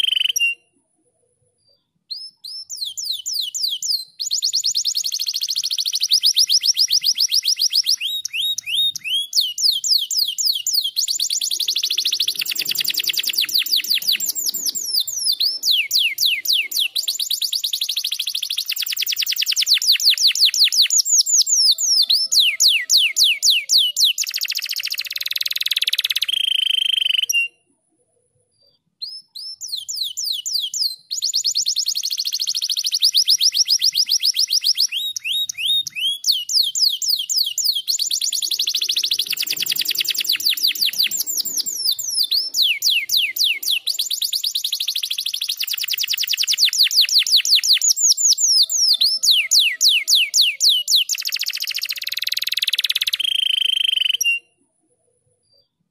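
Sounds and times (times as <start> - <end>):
canary singing trills: 0.0 - 0.8, 1.6 - 27.7, 28.6 - 54.6.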